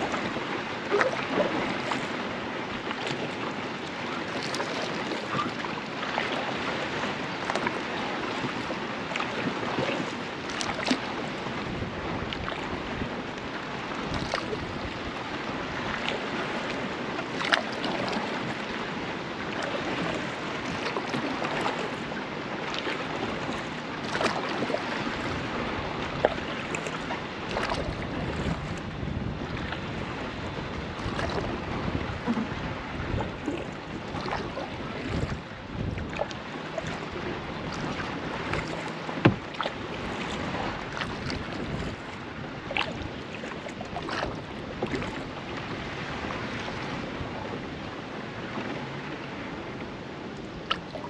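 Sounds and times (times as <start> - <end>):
water lapping around kayak hull: 0.0 - 51.0.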